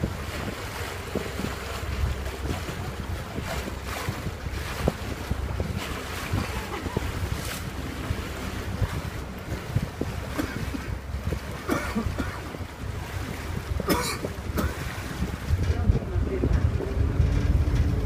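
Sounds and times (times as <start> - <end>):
boat engine rumbling: 0.0 - 18.0
rushing water: 0.0 - 18.0
wind on microphone: 0.0 - 18.0.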